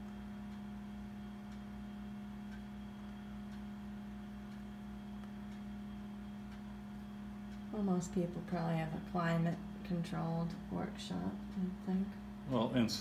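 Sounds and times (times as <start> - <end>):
soft faint ticks: 0.0 - 1.8, 2.4 - 12.2
low hum with regular pulse: 0.0 - 13.0.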